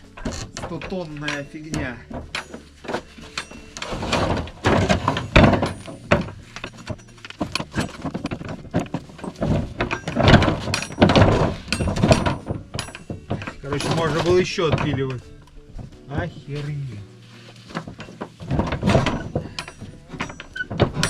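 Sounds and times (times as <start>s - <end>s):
wooden knocks and thuds: 0.0s - 16.8s, 17.4s - 21.0s
wood scraping: 0.0s - 21.0s.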